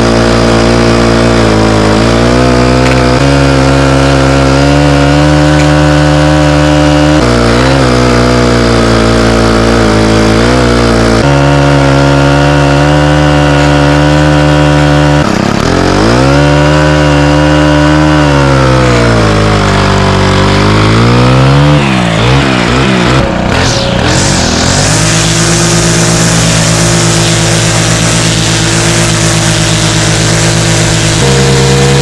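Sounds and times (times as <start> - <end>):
engine running loudly: 0.0 - 32.0.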